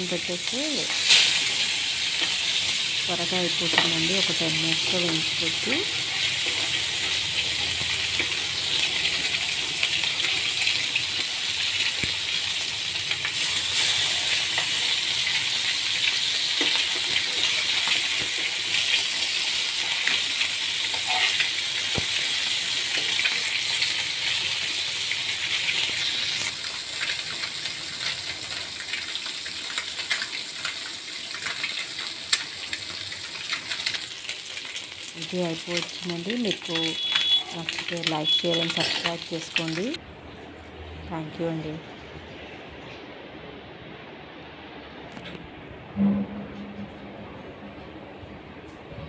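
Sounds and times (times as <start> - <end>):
fish sizzling in hot oil: 0.0 - 40.0.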